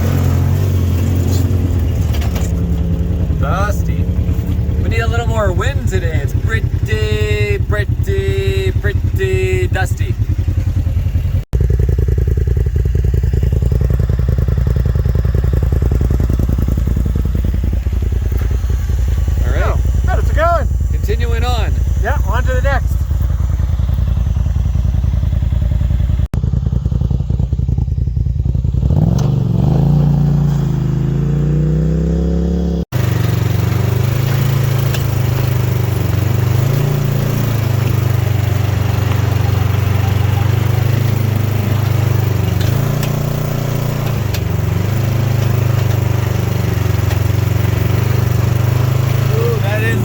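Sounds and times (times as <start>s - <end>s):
side-by-side engine running: 0.0s - 50.0s.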